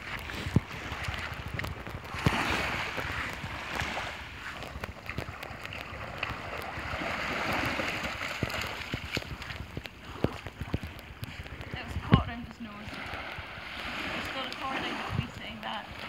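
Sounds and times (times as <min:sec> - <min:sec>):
light crackling: 0:00.0 - 0:16.0
seawater splashing and lapping: 0:00.0 - 0:16.0
wind on microphone: 0:00.0 - 0:16.0.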